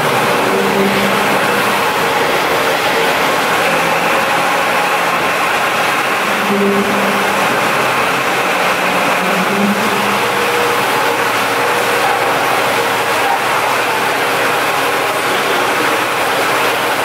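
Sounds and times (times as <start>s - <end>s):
diesel generator engine running: 0.0s - 17.0s.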